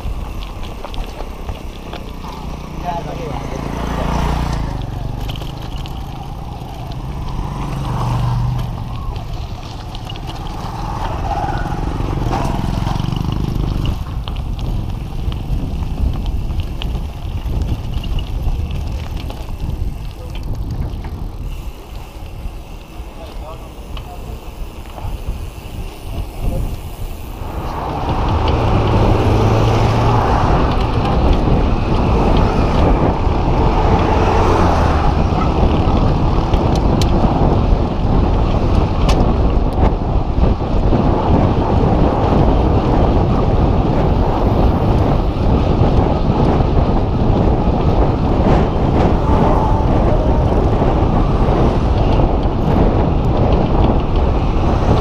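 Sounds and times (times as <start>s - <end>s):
wind rush on microphone: 0.0s - 55.0s.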